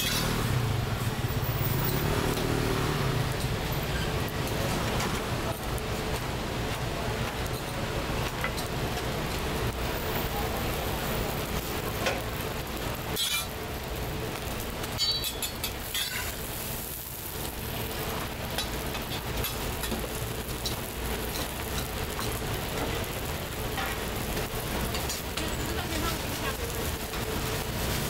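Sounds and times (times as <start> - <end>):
pancakes sizzling in oil: 0.0 - 28.0.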